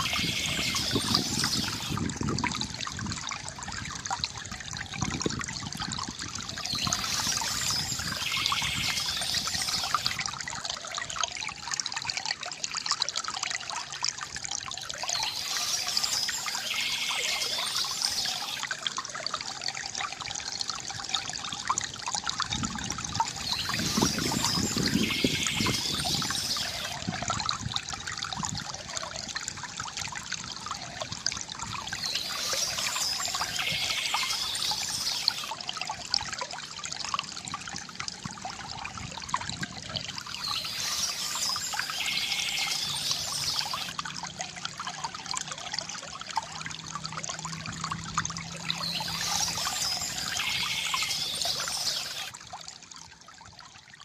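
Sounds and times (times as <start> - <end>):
water trickling from fountain: 0.0 - 54.0.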